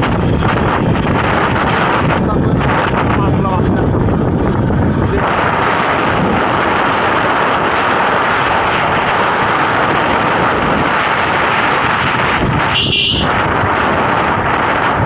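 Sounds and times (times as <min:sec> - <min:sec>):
wind and travel noise: 0:00.0 - 0:15.0.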